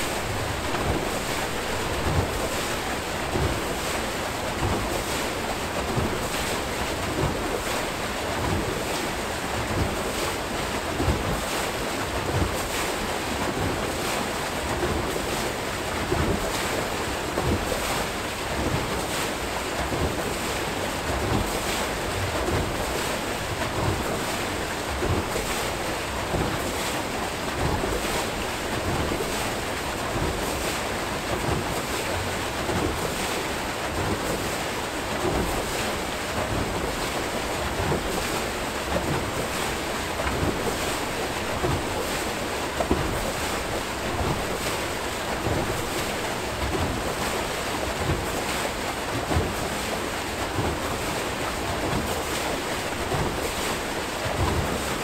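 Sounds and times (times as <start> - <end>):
faint rhythmic splash: 0.0 - 55.0
water rushing from turbine: 0.0 - 55.0.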